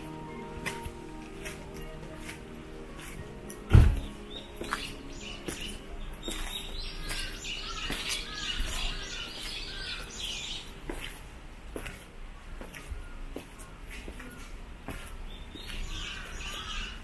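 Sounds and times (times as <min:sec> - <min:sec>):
footsteps tapping: 0:00.0 - 0:16.7
small birds chirping: 0:00.0 - 0:17.0.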